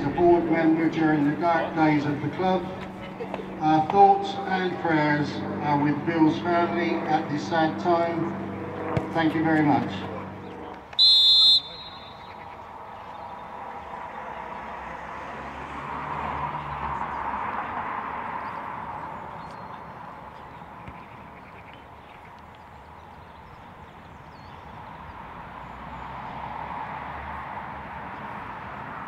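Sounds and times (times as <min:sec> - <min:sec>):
outdoor background rush: 0:00.0 - 0:29.0.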